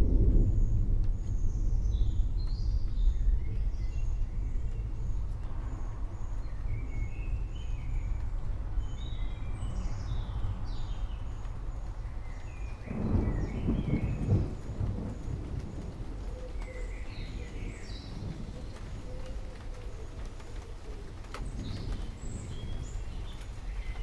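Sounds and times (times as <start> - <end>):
distant thunder rumble: 0.0 - 7.0, 9.4 - 24.0
small birds chirping: 2.0 - 24.0.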